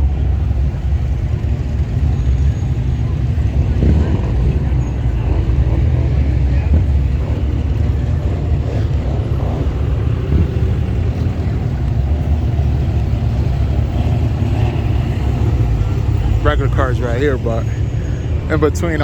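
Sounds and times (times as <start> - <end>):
low engine rumble of traffic: 0.0 - 19.0.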